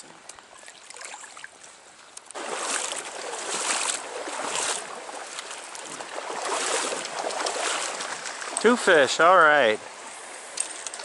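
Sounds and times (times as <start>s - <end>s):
stream water splashing: 0.0s - 11.0s.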